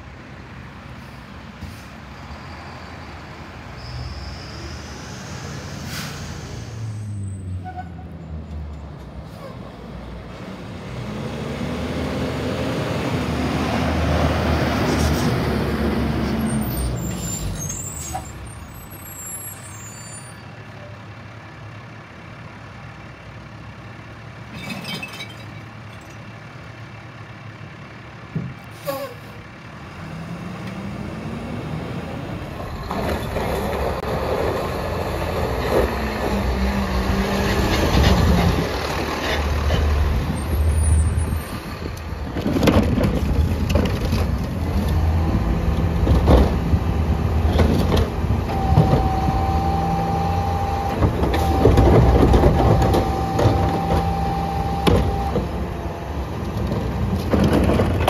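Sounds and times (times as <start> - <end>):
garbage truck diesel engine: 0.0 - 58.0.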